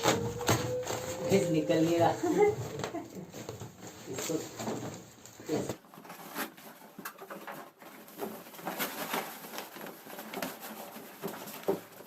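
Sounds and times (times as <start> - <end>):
packing rustling and scraping: 0.0 - 12.0.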